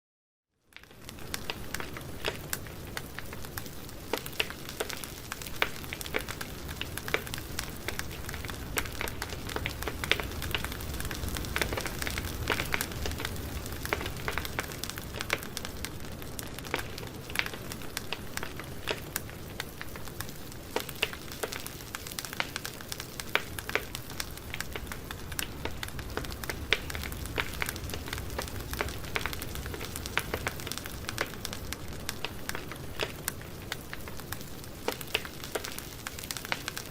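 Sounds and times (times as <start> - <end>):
campfire crackling and popping: 0.7 - 36.9.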